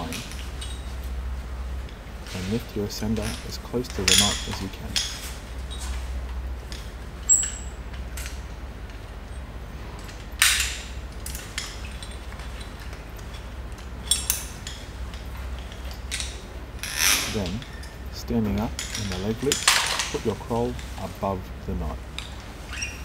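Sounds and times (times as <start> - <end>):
metal carabiners clinking: 0.0 - 1.2, 1.8 - 6.0, 6.6 - 21.1
steady low hum: 0.0 - 23.0.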